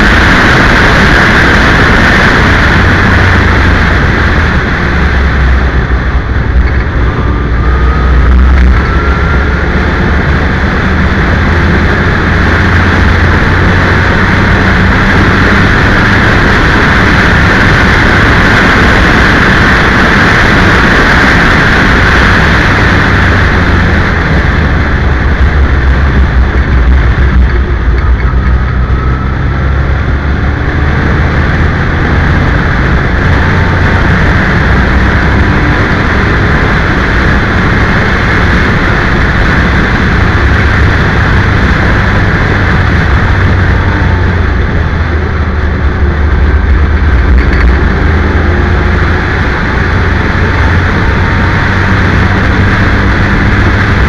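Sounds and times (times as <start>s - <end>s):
race car engine: 0.0s - 54.0s
rushing wind: 0.0s - 54.0s.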